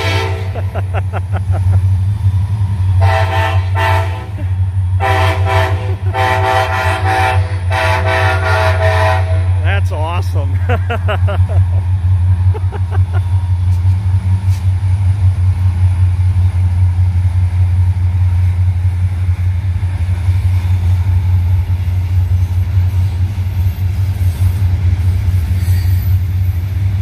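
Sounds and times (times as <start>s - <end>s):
diesel locomotives passing: 0.0s - 27.0s.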